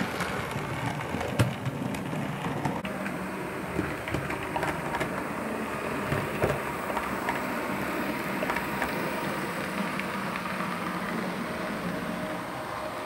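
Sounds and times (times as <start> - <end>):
model train rumbling on rails: 0.0 - 13.0.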